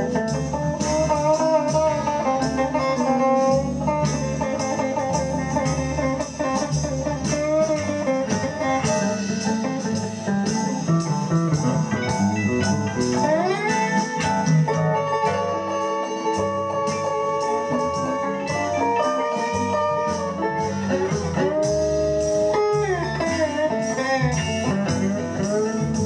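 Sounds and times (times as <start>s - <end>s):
slide guitar blues: 0.0s - 26.0s.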